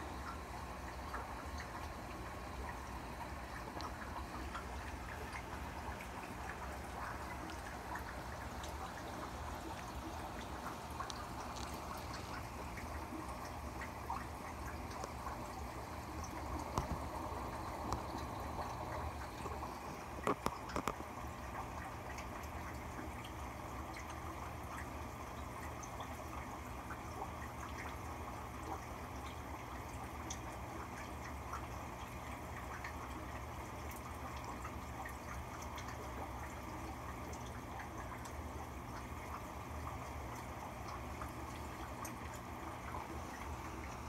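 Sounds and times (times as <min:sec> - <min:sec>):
aquarium water trickling and bubbling: 0:00.0 - 0:44.0
small drip-like ticks: 0:00.0 - 0:44.0.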